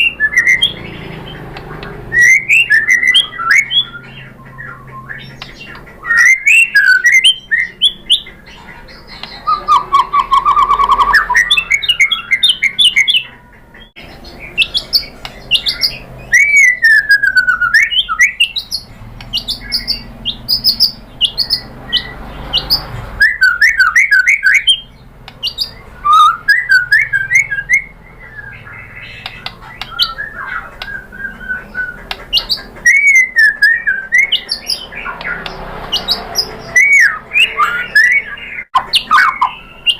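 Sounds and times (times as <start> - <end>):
bird singing varied phrases: 0.0 - 39.9.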